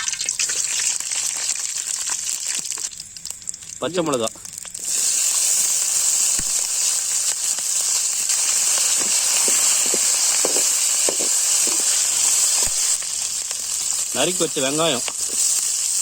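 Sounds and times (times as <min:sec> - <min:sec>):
hot oil sizzling in a pan: 0:00.0 - 0:16.0
oil popping: 0:00.0 - 0:16.0.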